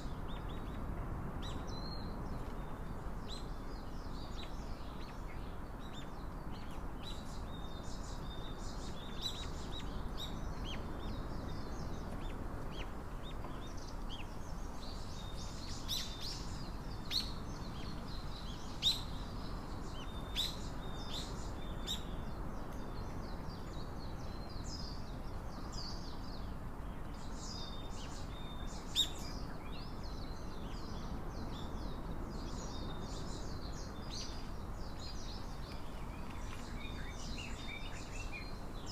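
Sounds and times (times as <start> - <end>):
low background hiss: 0.0 - 38.9
small birds chirping: 0.0 - 38.9.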